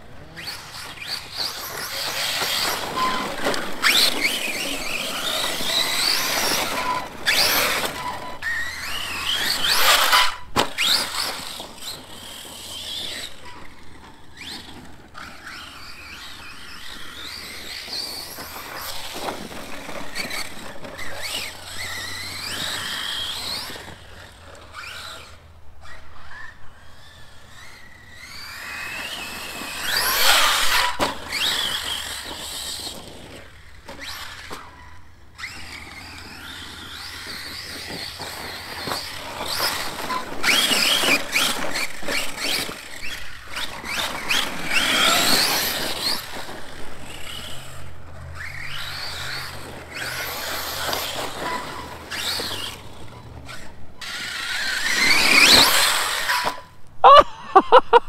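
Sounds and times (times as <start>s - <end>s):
rc truck motor whining: 0.0s - 57.0s.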